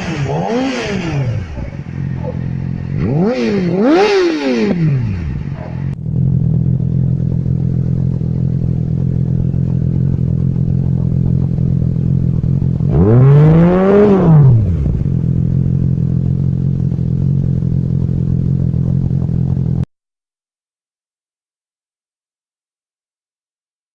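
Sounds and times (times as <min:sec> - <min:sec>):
motorcycle engine idling and revving: 0:00.0 - 0:19.9.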